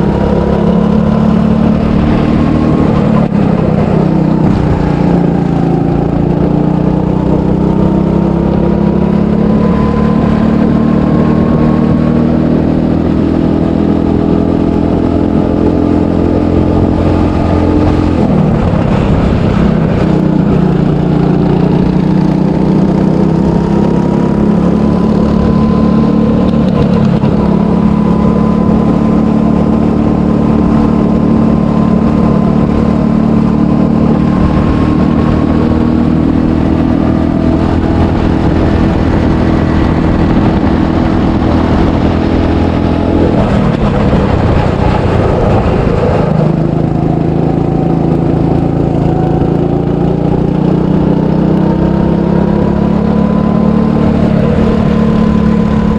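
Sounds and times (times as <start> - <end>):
go-kart engine running hard: 0.0 - 55.9.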